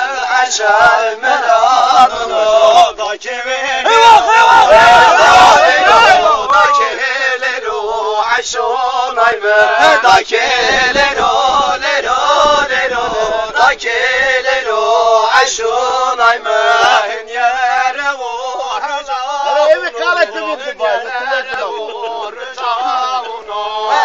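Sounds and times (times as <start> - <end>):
men singing in unison: 0.0 - 24.0.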